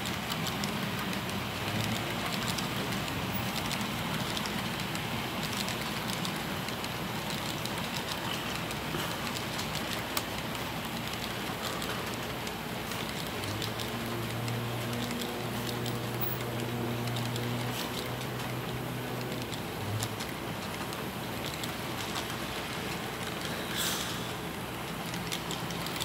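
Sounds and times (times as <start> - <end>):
sharp clicks of wheels: 0.0 - 26.0.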